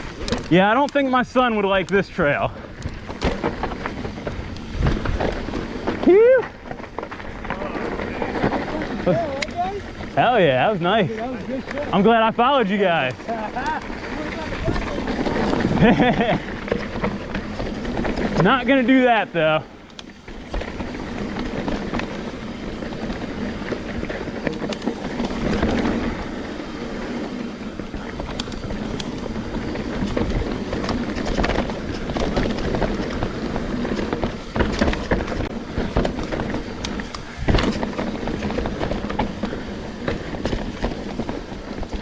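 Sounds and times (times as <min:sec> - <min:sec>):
bike tyres on dirt trail: 0:00.0 - 0:42.0
bike knocking over roots and rocks: 0:01.8 - 0:42.0.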